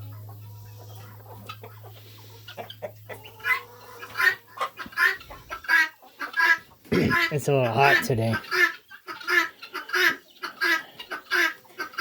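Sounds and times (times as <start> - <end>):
hen clucking: 0.0 - 12.0.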